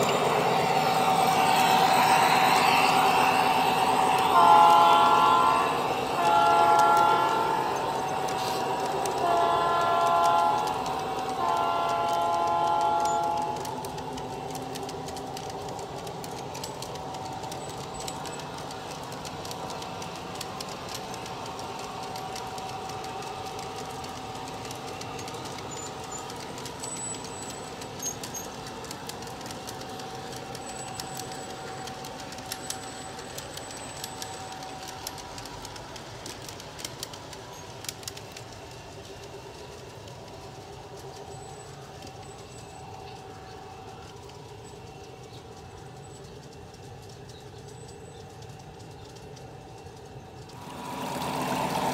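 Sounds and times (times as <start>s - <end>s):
model train wheels humming: 0.0s - 51.9s
wheels clicking over rail joints: 0.0s - 51.9s.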